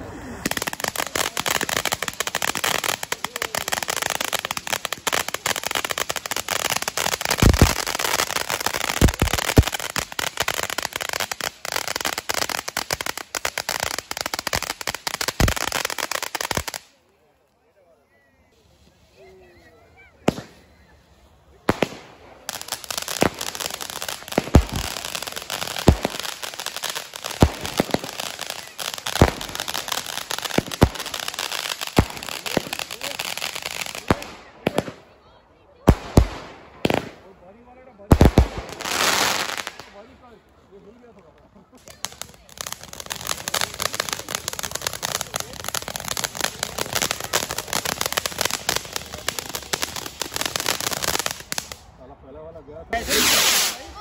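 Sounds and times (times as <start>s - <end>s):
fireworks bursting with bangs: 0.0s - 17.0s, 20.2s - 35.2s, 35.8s - 37.3s, 38.0s - 40.1s, 41.8s - 51.8s, 52.9s - 54.0s
fireworks crackling: 0.0s - 17.6s, 18.6s - 52.0s, 52.9s - 54.0s.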